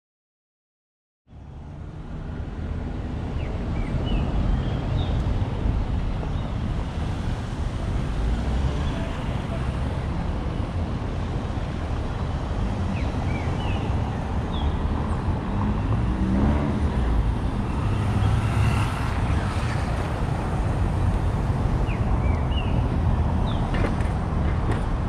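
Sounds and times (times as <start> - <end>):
passing vehicle traffic rumble: 1.3 - 25.0.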